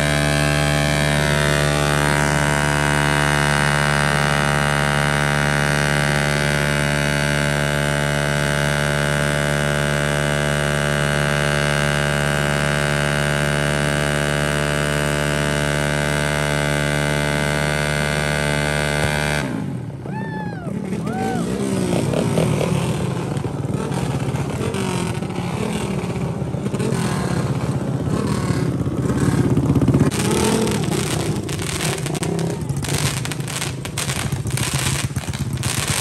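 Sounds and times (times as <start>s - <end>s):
scooter engine at high revs: 0.0s - 20.0s, 20.7s - 36.0s.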